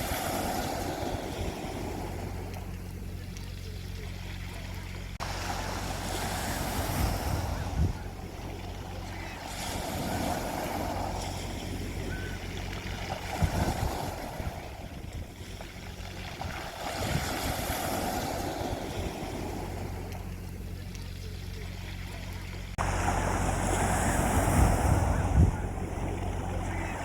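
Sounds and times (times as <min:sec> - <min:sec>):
sea waves breaking: 0:00.0 - 0:27.0
steady low hum: 0:00.0 - 0:27.0.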